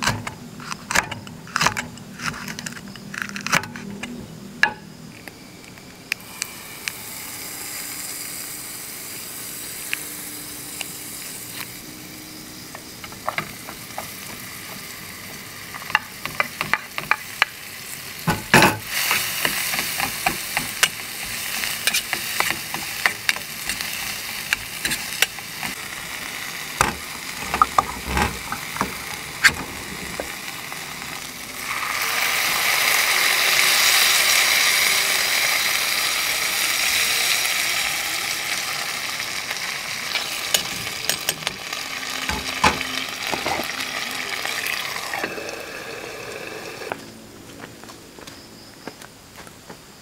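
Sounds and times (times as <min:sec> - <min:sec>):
onion frying with crackles: 0:00.0 - 0:47.1
sauce hissing in hot pot: 0:06.2 - 0:47.0.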